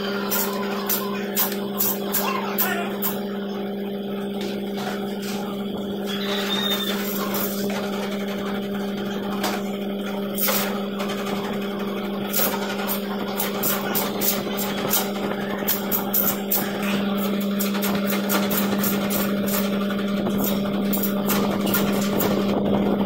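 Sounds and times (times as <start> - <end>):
cutting machine motor humming: 0.0 - 23.0.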